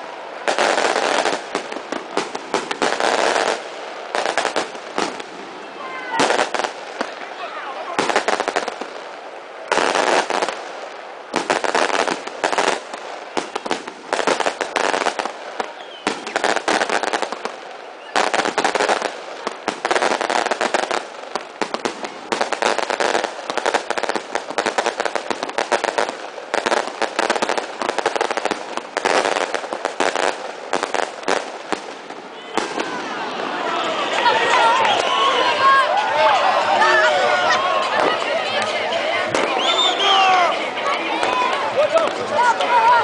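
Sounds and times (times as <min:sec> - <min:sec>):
fireworks crackling bangs: 0:00.0 - 0:43.0.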